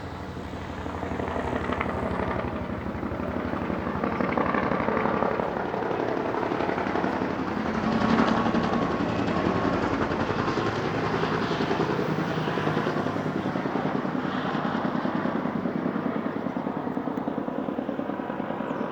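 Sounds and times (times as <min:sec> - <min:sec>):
helicopter rotor chopping: 0:00.0 - 0:18.8
helicopter engine noise: 0:00.0 - 0:18.9.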